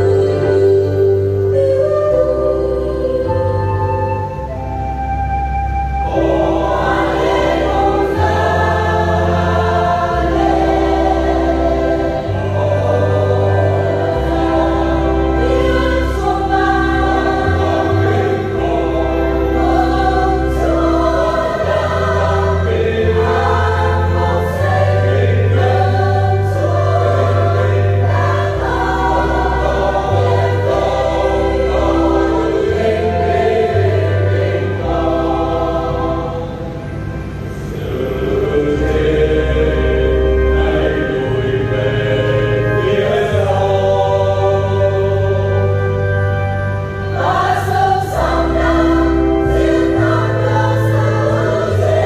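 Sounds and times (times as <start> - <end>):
choir singing a hymn: 0.0 - 52.0
held bass notes: 0.0 - 52.0.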